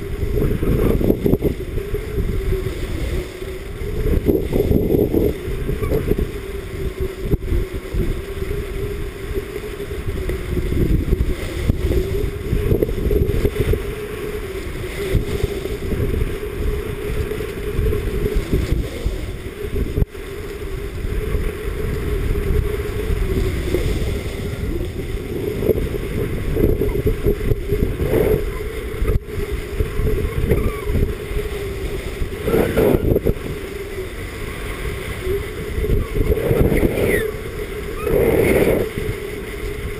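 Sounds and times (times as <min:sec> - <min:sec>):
skis sliding on snow: 0:00.0 - 0:39.9
wind buffeting microphone: 0:00.0 - 0:39.9.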